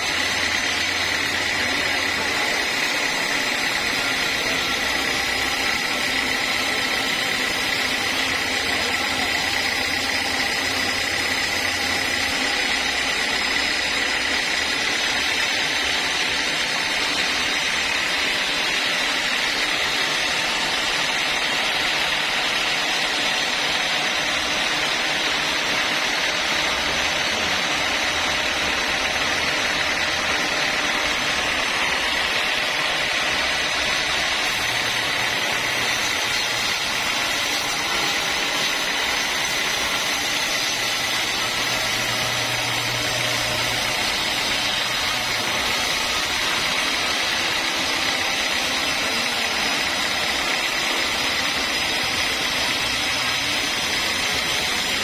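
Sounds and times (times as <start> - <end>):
saw cutting log with high whine: 0.0 - 55.0.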